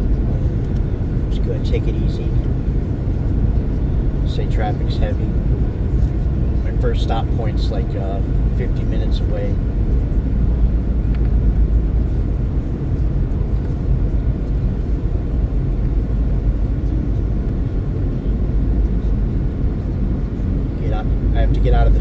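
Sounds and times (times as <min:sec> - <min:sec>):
car road noise: 0:00.0 - 0:22.0.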